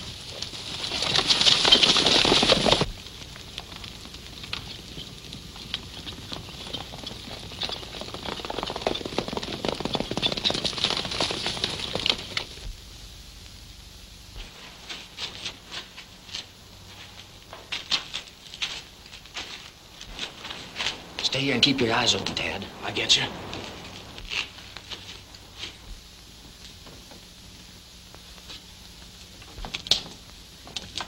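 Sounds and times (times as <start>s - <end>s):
horses galloping: 0.0s - 12.8s, 14.4s - 31.0s.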